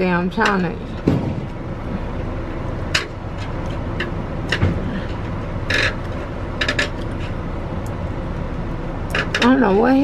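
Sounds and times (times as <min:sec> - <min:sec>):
motor vehicle rumble: 0:00.0 - 0:10.0.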